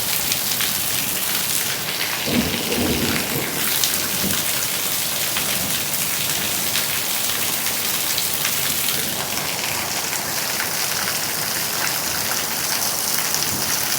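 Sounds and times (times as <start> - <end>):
steady rain: 0.0 - 13.9.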